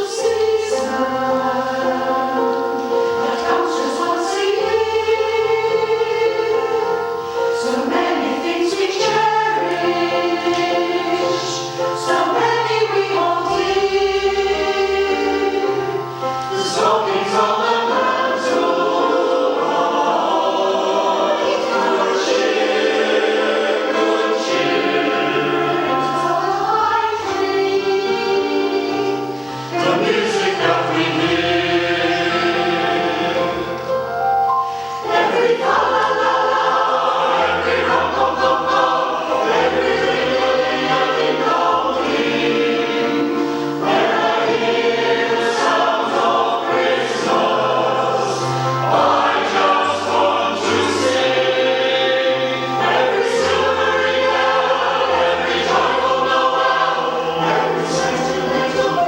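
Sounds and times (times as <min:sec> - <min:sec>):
choir singing in parts: 0:00.0 - 0:59.0.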